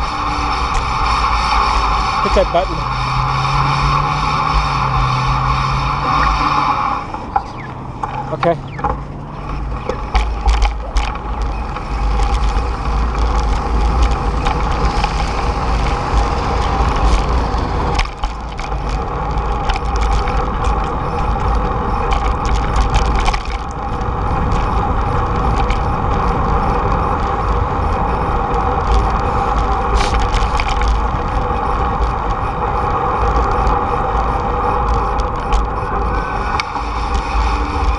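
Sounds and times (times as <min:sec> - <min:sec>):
tyres on pavement: 0:00.0 - 0:37.9
wind rumbling on microphone: 0:00.0 - 0:37.9
bicycle clicks and rattles: 0:07.1 - 0:37.9.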